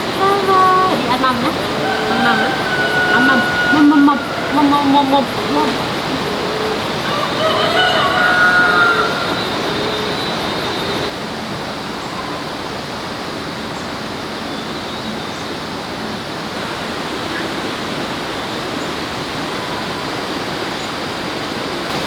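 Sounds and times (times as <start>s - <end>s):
steady rushing noise: 0.0s - 14.3s, 15.6s - 22.0s.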